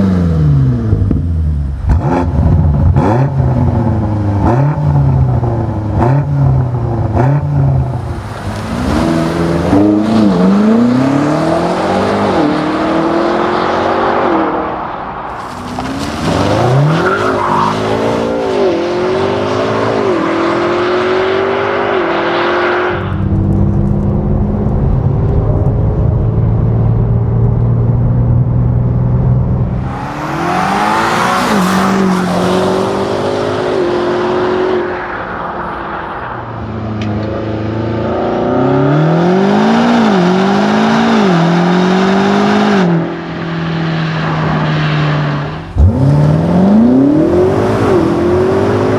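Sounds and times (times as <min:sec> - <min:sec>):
car engine accelerating through upshifts: 0:00.0 - 0:28.2, 0:29.3 - 0:48.9.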